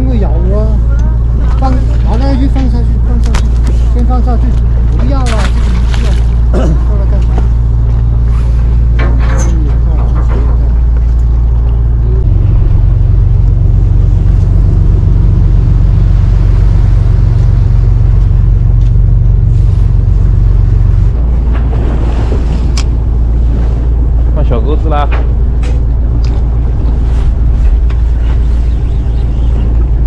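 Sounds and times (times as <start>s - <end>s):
boat engine droning: 0.0s - 30.0s
water washing along hull: 0.0s - 30.0s.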